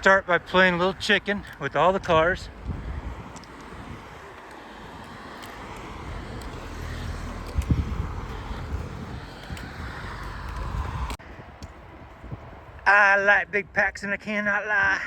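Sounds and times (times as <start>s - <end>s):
car passing on highway: 0.0s - 12.8s.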